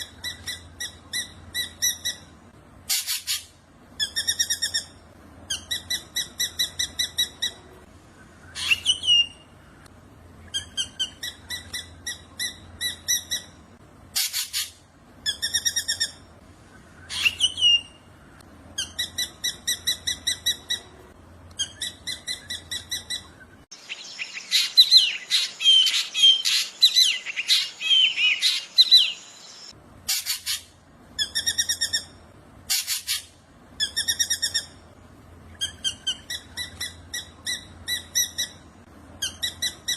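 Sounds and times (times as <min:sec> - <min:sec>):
harsh bird calls: 0:00.0 - 0:39.9.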